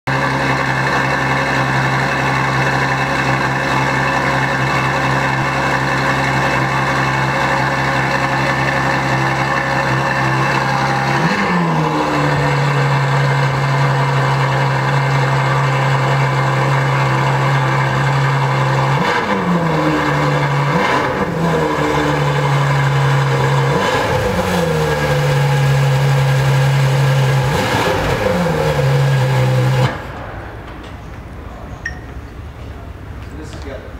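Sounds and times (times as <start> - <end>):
car engine idling and revving: 0.1 - 33.3.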